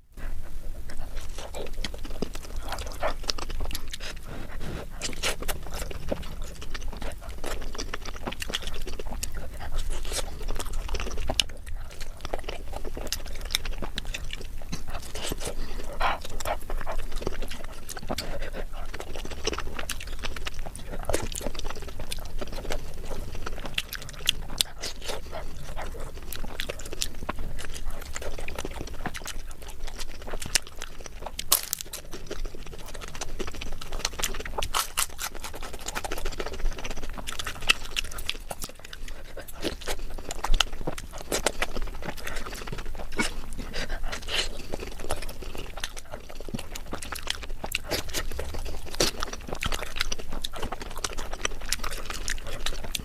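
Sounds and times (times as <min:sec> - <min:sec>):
chewing with wet mouth smacks: 0:00.0 - 0:53.0.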